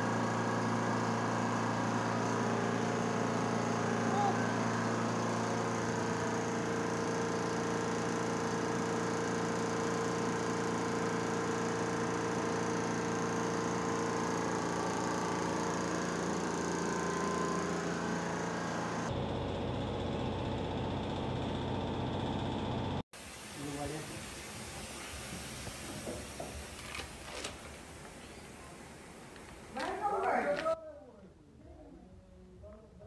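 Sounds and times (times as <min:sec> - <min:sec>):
workshop machine motor humming: 0:00.0 - 0:30.8.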